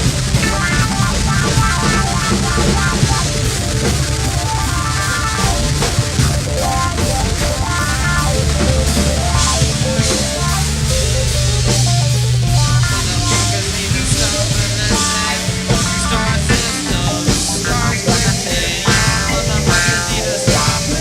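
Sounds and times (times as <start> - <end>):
drum kit: 0.0 - 21.0
guitar: 0.0 - 21.0
sustained bass notes: 0.0 - 21.0.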